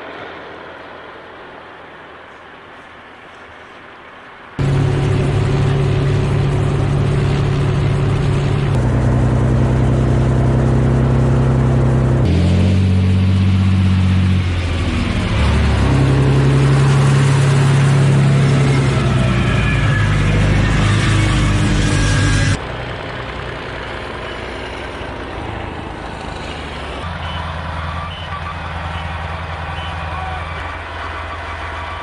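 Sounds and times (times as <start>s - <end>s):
diesel engine running: 4.6s - 32.0s.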